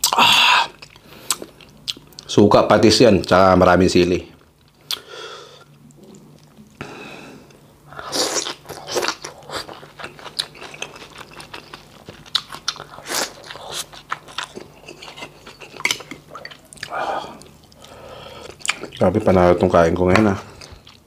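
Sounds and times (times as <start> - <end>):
man chewing food: 0.0 - 2.3, 4.4 - 19.1, 20.4 - 21.0.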